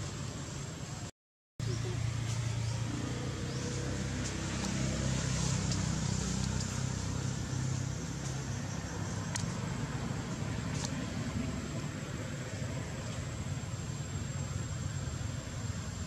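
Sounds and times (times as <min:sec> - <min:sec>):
constant hiss: 0:00.0 - 0:16.0
engine running with low hum: 0:01.6 - 0:16.0.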